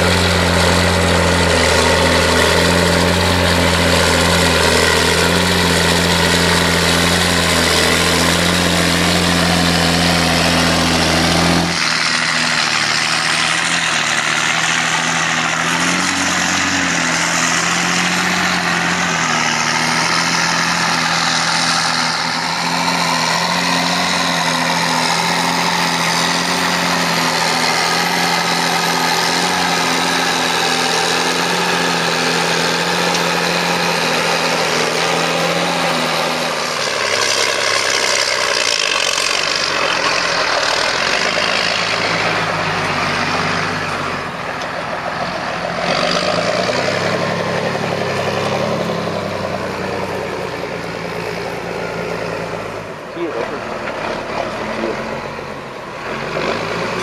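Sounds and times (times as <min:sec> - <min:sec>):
tractor diesel engine straining: 0:00.0 - 0:57.0.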